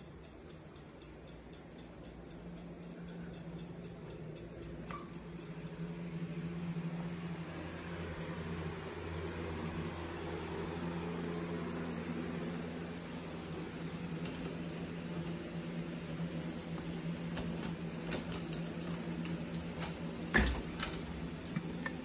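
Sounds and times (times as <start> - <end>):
electric fan humming: 0.0 - 22.0.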